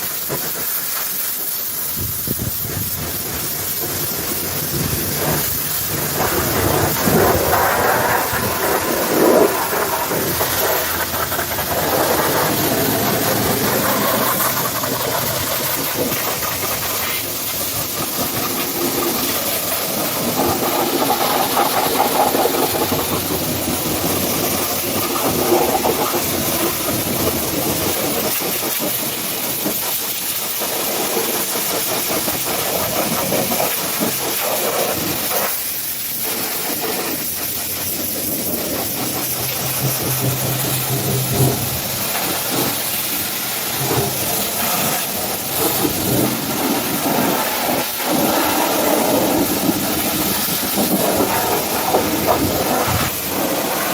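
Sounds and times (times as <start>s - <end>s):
pressure washer spray hissing: 0.0s - 53.9s.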